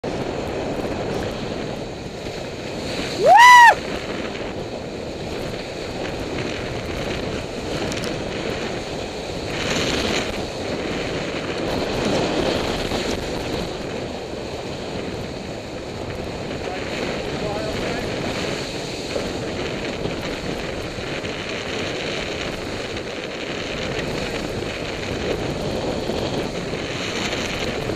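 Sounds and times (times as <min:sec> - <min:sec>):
water rushing past boat hulls: 0:00.0 - 0:27.9
wind buffeting microphone: 0:00.0 - 0:27.9.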